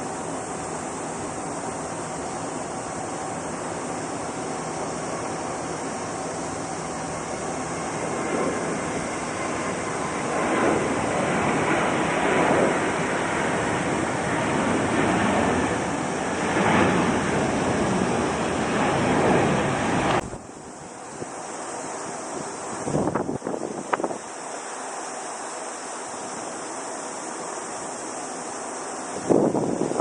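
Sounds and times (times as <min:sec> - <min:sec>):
jet engines at takeoff: 0:00.0 - 0:30.0.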